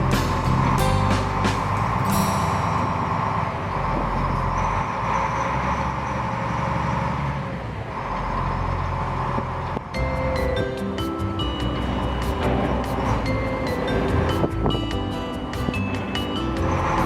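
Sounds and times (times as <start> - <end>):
large engine running: 0.0 - 17.0.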